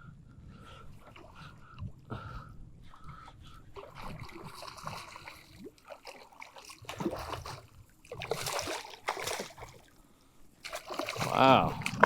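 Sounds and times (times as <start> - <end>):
water splashing and sloshing: 0.5 - 12.0.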